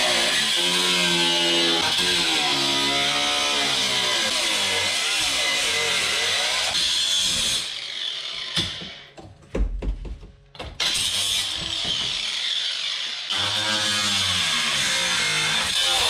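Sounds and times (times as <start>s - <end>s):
angle grinder cutting steel: 0.0s - 9.1s, 10.8s - 16.0s.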